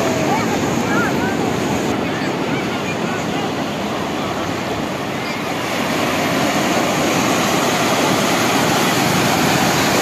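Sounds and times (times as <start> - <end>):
foamy wash running up sand: 0.0 - 10.0
small waves breaking: 0.0 - 10.0.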